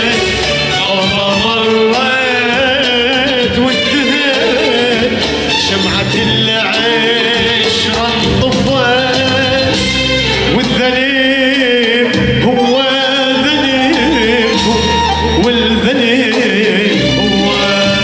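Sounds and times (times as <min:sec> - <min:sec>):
man singing ornamented vocals: 0:00.0 - 0:09.7, 0:10.5 - 0:18.0
instrumental accompaniment: 0:00.0 - 0:18.0.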